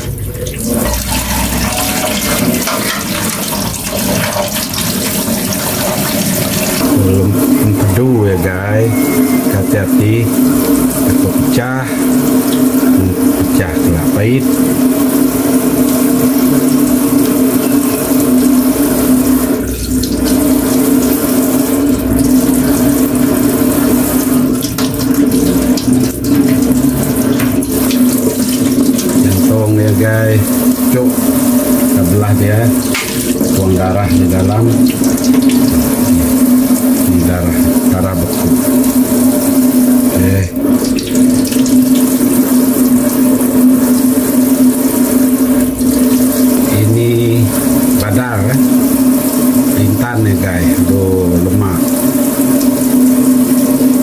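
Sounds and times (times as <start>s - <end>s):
steady hum: 0.0s - 54.0s
tap water running into sink: 0.0s - 54.0s.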